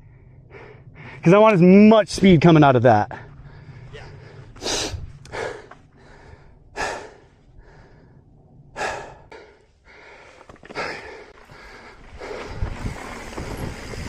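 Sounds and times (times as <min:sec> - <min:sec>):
person breathing heavily: 0:00.0 - 0:01.2, 0:03.2 - 0:13.2.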